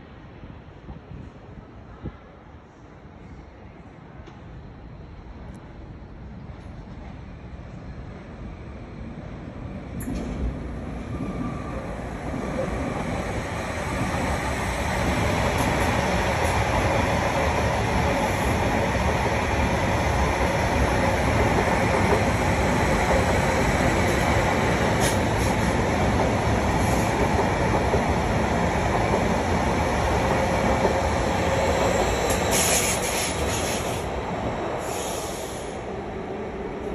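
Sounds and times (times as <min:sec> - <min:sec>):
train wheels rumbling on rail: 0:05.4 - 0:36.9.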